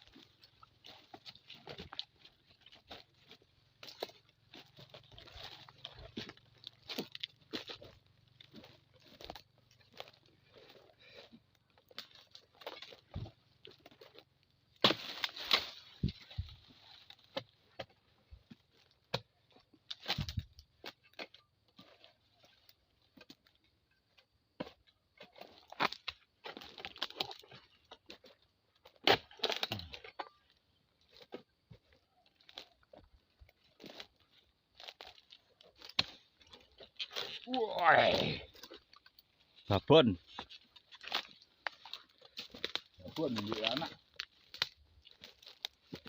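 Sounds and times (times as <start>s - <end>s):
palm fronds cracking and rustling: 0.0s - 46.0s.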